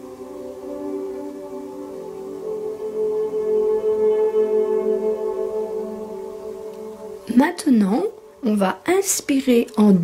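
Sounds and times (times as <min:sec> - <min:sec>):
meditation music with ringing tones: 0:00.0 - 0:08.6.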